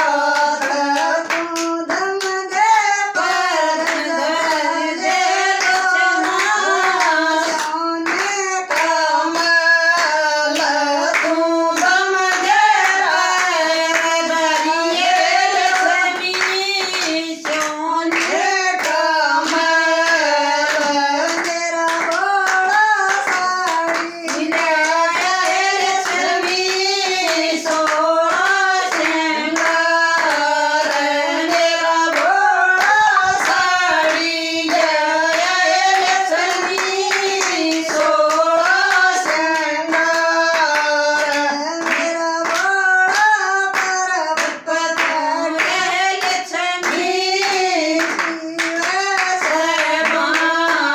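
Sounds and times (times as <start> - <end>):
devotional singing: 0.0 - 50.9
hand clapping: 0.0 - 50.9.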